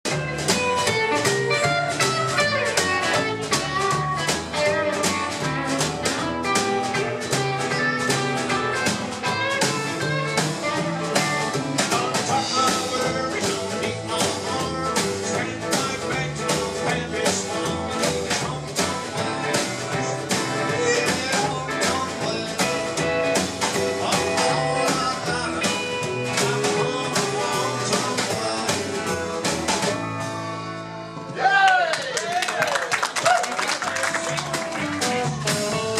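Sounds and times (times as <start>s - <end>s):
live country band playing: 0.0s - 35.9s.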